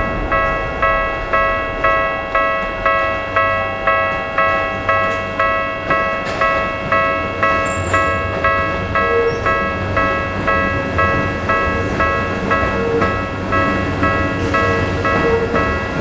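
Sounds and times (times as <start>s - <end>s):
level crossing warning bell ringing: 0.0s - 16.0s
train rumble: 0.0s - 16.0s.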